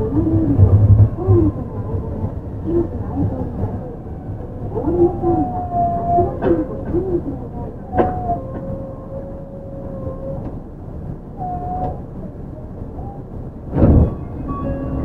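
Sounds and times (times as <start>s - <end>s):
tyres rumbling on guideway: 0.0s - 15.0s.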